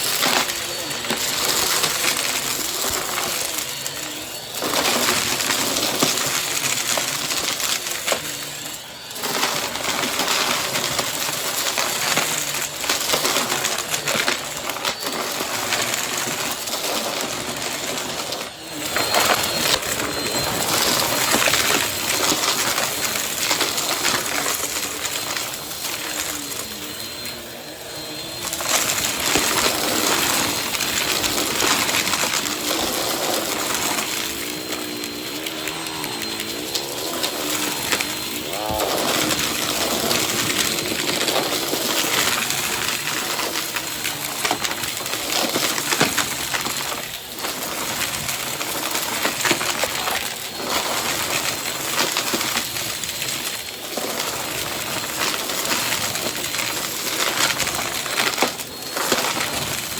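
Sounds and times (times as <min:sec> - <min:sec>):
small clicks and rattles: 0:00.0 - 0:59.9
vacuum cleaner running: 0:00.0 - 0:59.9.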